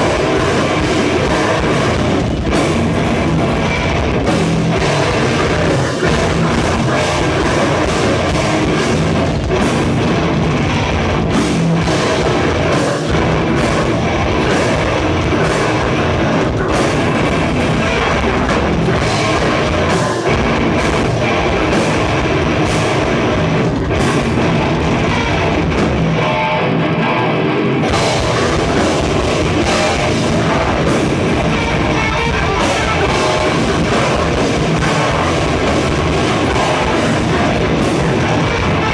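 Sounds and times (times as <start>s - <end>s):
bass guitar: 0.0s - 38.9s
drum kit: 0.0s - 38.9s
electric guitars: 0.0s - 38.9s.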